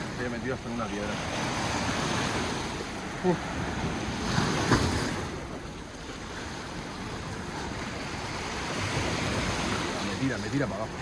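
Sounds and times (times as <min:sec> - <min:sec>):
sea surf washing on shore: 0:00.0 - 0:11.0.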